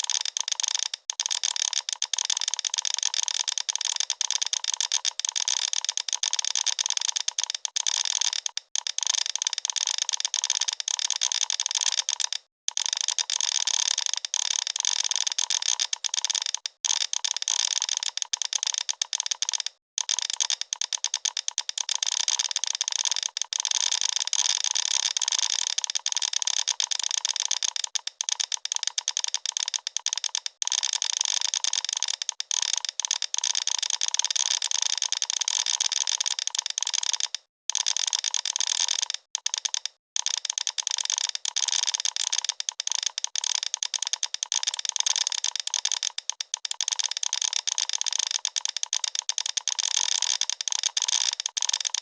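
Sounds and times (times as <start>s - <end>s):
rapid mechanical clicking: 0.0s - 52.0s.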